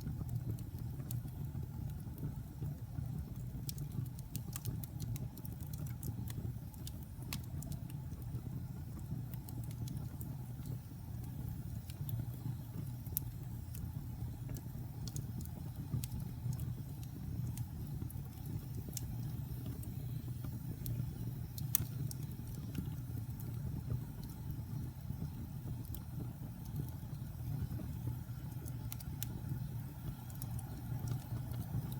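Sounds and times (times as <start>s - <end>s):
logs crackling and popping: 0.0s - 31.9s
low rumble of flames: 0.0s - 31.9s.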